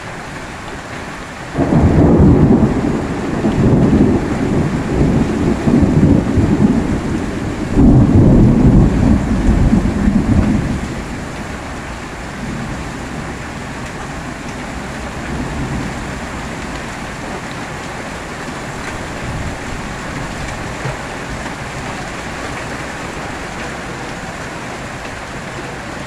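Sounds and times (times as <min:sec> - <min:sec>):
heavy rain pouring: 0:00.0 - 0:26.0
low thunder rumble: 0:01.6 - 0:17.5, 0:18.6 - 0:24.3.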